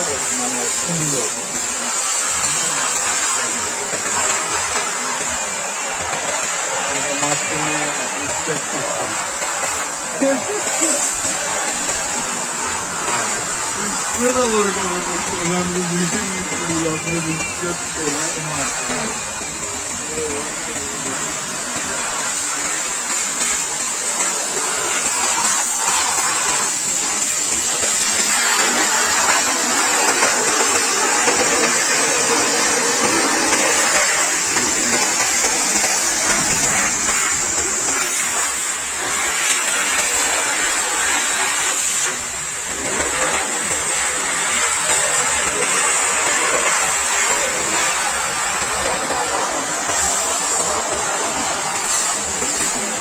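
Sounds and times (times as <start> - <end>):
pressure washer spray hissing: 0.0 - 53.0.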